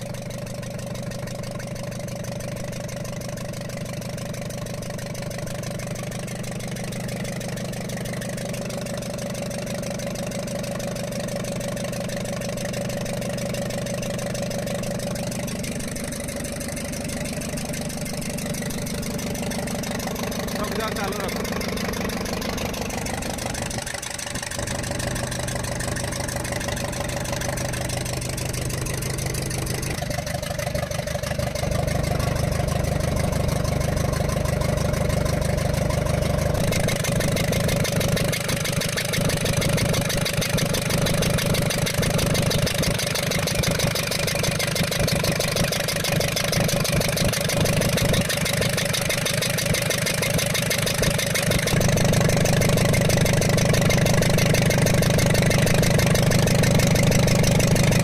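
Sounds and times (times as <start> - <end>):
abnormal engine noise: 0.0 - 58.0
diesel truck engine idling: 0.0 - 58.0.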